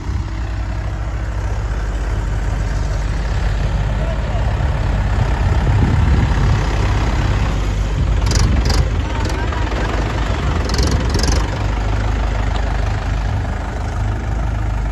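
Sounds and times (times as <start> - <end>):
heavy diesel engine rumbling: 0.0 - 14.9.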